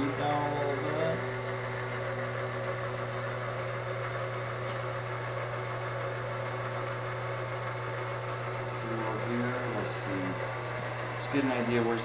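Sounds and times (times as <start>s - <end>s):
machine equipment humming: 0.0s - 12.0s.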